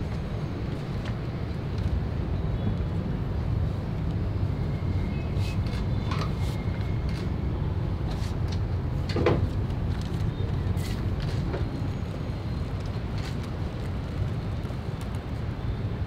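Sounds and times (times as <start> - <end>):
distant city traffic rumble: 0.0 - 16.0.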